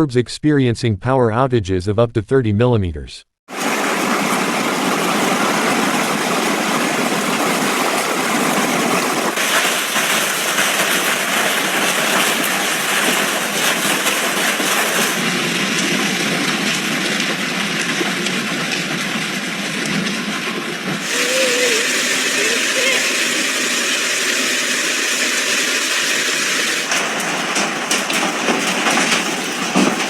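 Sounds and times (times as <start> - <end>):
heavy rain pouring: 3.5 - 30.0.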